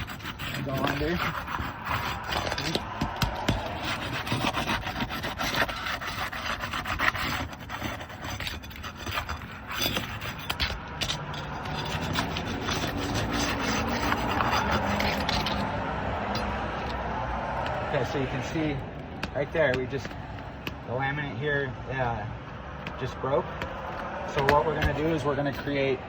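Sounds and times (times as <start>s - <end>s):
flat tool scraping under shingles: 0.0s - 26.0s.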